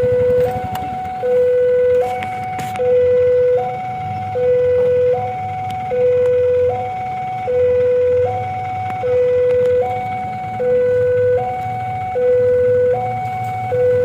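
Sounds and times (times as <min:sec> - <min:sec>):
two-tone level crossing alarm: 0:00.0 - 0:14.0.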